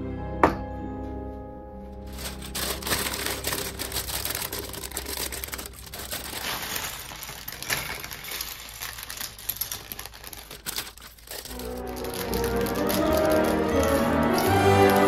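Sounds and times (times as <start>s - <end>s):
plastic bag crinkling: 2.0s - 15.0s
plastic bricks clattering on countertop: 2.1s - 15.0s.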